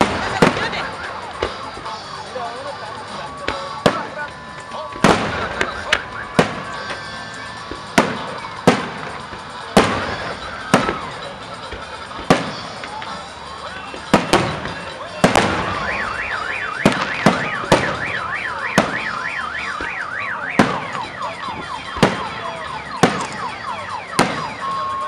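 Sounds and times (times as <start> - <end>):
car alarm warbling and chirping: 0.0 - 25.0
fireworks bursting with bangs: 0.0 - 25.0.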